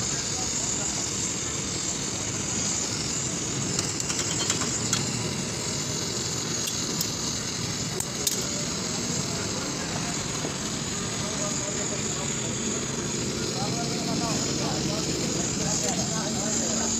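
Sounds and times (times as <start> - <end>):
steady background noise: 0.0 - 16.9.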